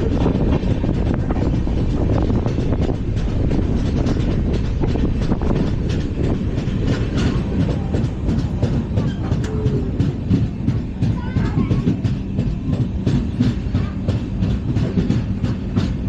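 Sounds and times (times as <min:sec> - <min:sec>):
train wheels rumbling on rails: 0:00.0 - 0:16.0
wheels clacking on track: 0:00.0 - 0:16.0.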